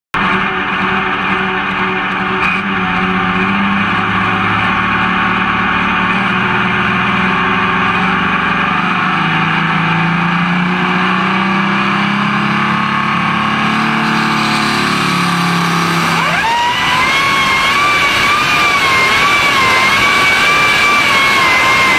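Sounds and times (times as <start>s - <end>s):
tractor engine running: 0.1s - 21.9s.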